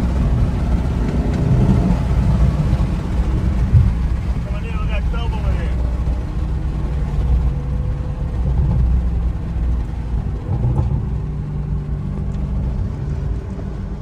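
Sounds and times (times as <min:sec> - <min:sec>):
car engine drone: 0:00.0 - 0:14.0
road noise: 0:00.0 - 0:14.0.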